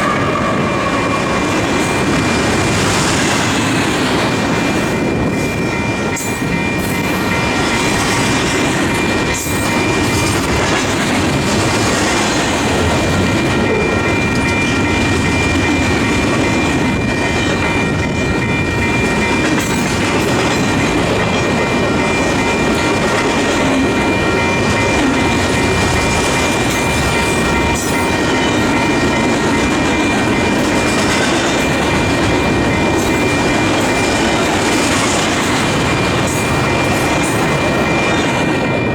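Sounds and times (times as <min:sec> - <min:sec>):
freight train wheels clacking: 0:00.0 - 0:38.9
wind buffeting microphone: 0:00.0 - 0:38.9.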